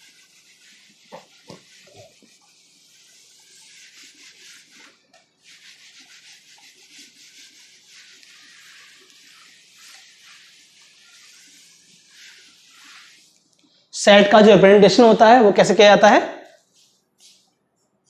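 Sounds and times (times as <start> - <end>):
eraser scrubbing whiteboard: 0.0 - 18.0.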